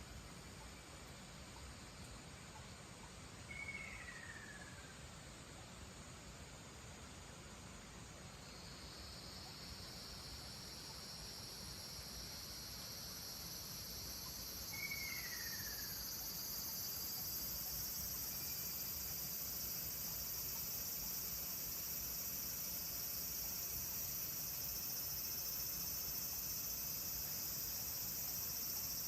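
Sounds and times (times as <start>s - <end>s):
insect chorus: 0.0s - 29.0s.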